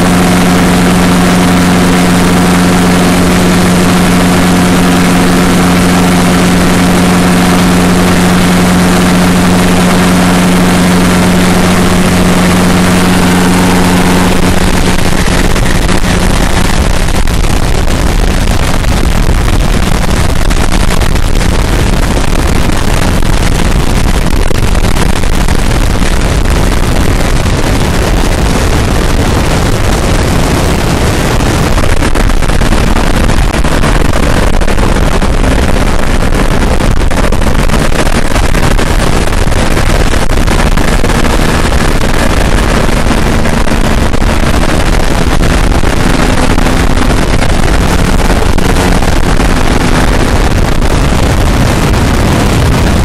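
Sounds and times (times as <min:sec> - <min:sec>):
plane engine and propeller: 0:00.0 - 0:53.0
wind rush on microphone: 0:00.0 - 0:53.0.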